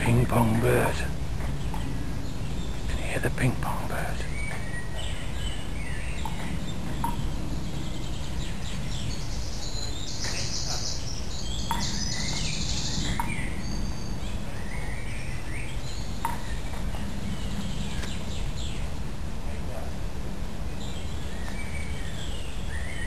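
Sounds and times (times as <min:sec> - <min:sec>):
low background rumble: 0:00.0 - 0:23.0
songbirds singing: 0:00.0 - 0:23.0.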